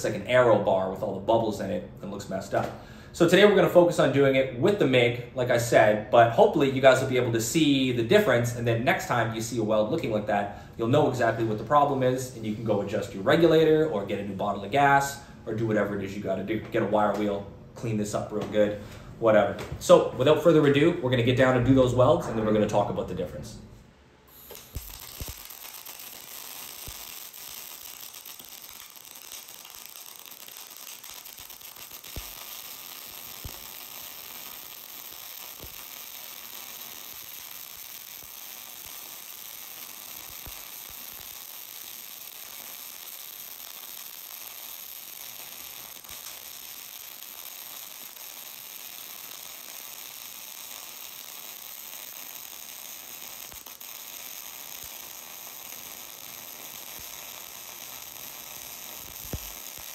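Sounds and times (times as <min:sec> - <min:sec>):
welding arc pops: 0:00.0 - 0:10.2, 0:16.5 - 0:23.0, 0:24.3 - 0:59.9
welding arc crackling sizzle: 0:00.0 - 0:21.9, 0:24.3 - 0:59.9.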